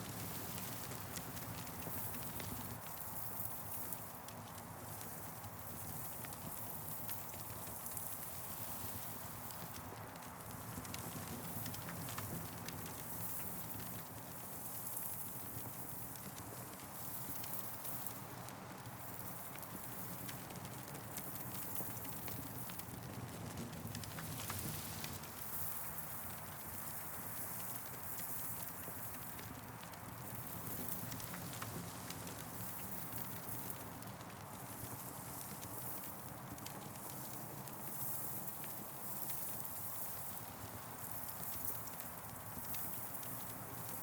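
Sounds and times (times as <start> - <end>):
campfire wood crackling: 0.0 - 44.0.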